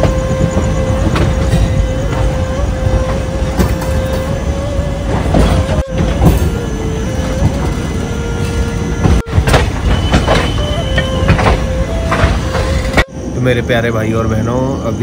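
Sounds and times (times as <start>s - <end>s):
sharp train clacks: 0.0s - 15.0s
train rumble with whine: 0.0s - 15.0s.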